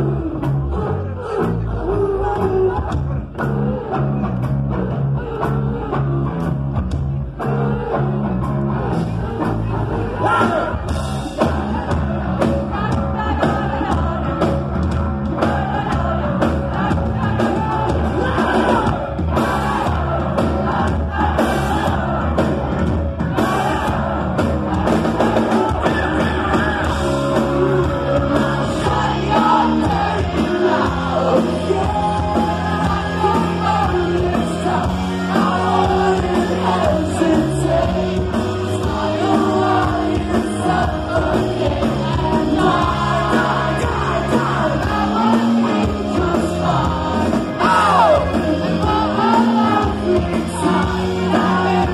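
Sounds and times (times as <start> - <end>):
live rock band: 0.0 - 51.9
singer yelling vocals: 9.0 - 14.4, 15.3 - 51.9.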